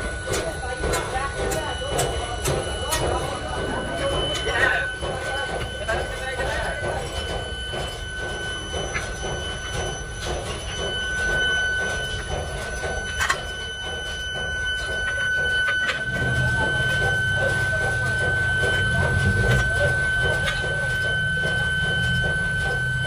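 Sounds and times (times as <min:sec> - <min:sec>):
high machine whine: 0:00.0 - 0:23.0.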